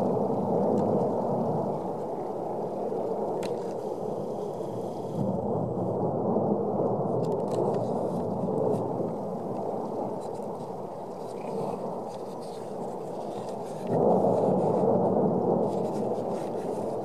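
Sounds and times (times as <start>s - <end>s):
volcano vent rumbling roar: 0.0s - 17.0s
faint cracks: 0.5s - 1.2s, 1.8s - 5.3s, 7.2s - 17.0s.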